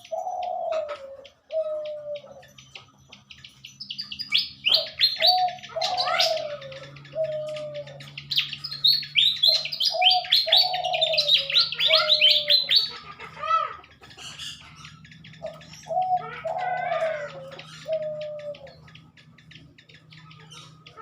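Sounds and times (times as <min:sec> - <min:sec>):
high squeaky bird chirps: 0:00.0 - 0:21.0.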